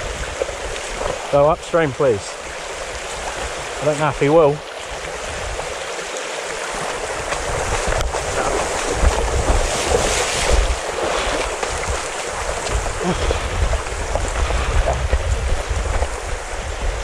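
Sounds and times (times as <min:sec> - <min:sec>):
wind buffeting microphone: 0:00.0 - 0:05.9, 0:06.7 - 0:17.0
river rushing over stones: 0:00.0 - 0:17.0.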